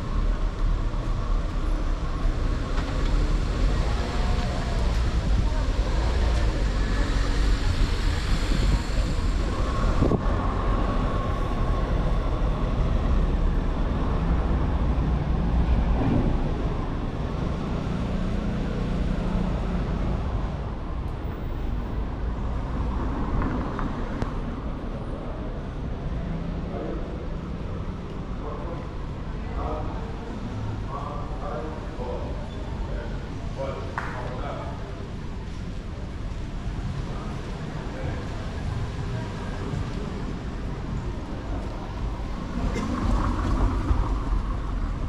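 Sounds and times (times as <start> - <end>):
cars passing: 0.0 - 45.0.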